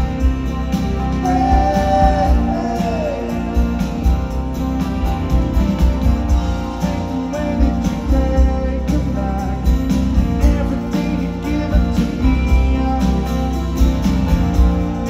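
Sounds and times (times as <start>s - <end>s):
acoustic guitar strumming: 0.0s - 15.0s
bass guitar: 0.0s - 15.0s
drums keeping a beat: 0.0s - 15.0s
electric guitar: 0.0s - 15.0s.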